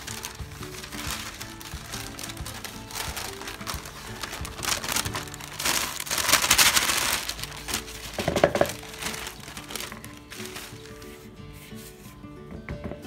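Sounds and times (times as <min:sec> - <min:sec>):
baking paper crinkling: 0:00.0 - 0:11.9
soft background music: 0:00.0 - 0:13.0.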